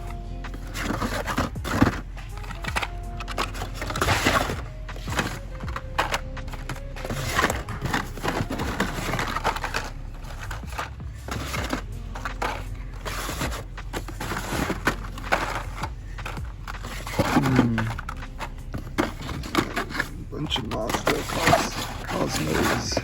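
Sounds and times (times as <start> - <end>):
card scraping against cardboard: 0.5 - 23.0
plastic blister packs crinkling: 0.5 - 23.0.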